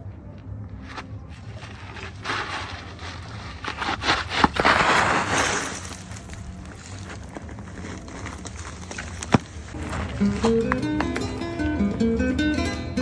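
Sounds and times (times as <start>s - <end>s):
soil and stones scraping: 0.7s - 11.4s.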